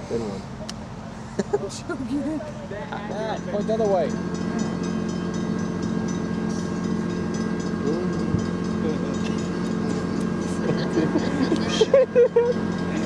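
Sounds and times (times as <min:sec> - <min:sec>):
diesel freight train rumbling: 0:00.0 - 0:13.0.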